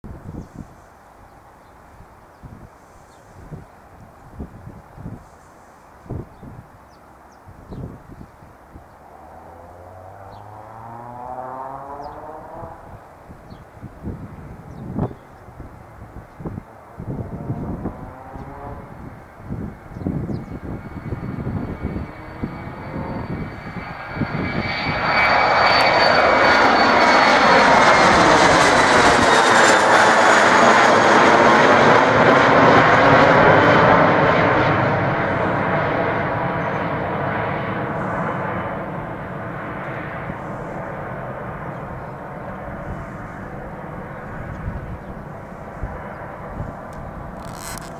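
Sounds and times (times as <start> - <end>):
wind buffeting microphone: 0.0 - 0.9, 2.0 - 5.4, 6.0 - 9.1, 11.6 - 47.9
jet engines high whine: 0.1 - 47.9.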